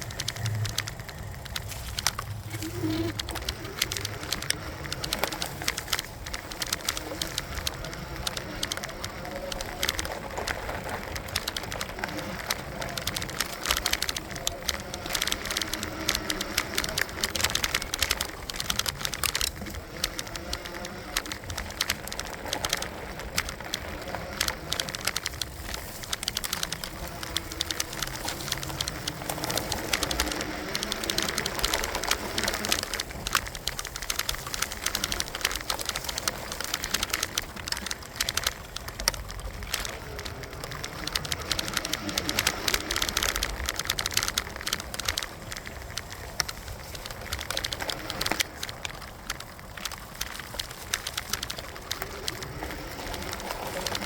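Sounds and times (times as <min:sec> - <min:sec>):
electric bike rattling and clicking: 0:00.0 - 0:54.0.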